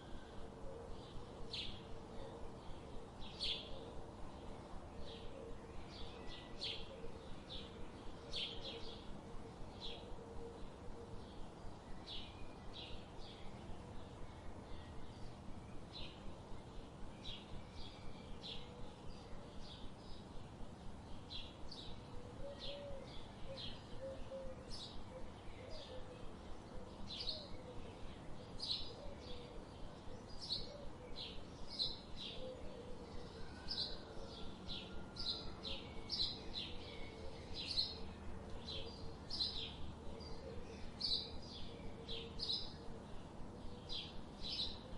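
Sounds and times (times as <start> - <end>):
small birds chirping: 1.1 - 44.9.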